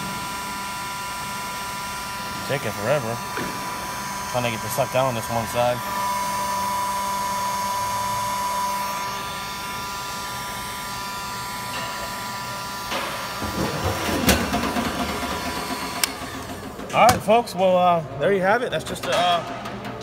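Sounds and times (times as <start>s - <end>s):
heat gun whining: 0.0s - 17.3s.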